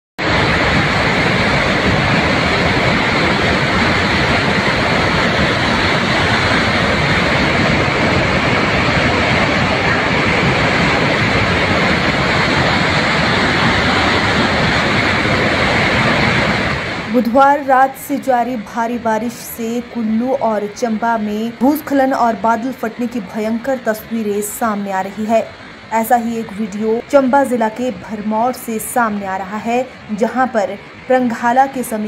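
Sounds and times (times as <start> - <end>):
flood torrent rushing: 0.2 - 32.0.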